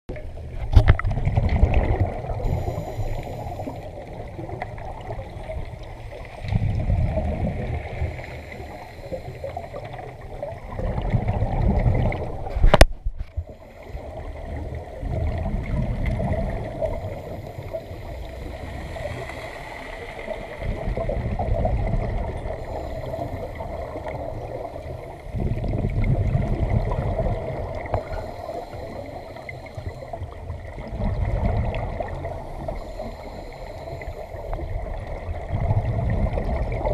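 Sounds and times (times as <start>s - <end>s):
underwater breathing bubbles: 0.8s - 36.9s
steady background hum: 2.2s - 10.7s, 13.4s - 35.9s.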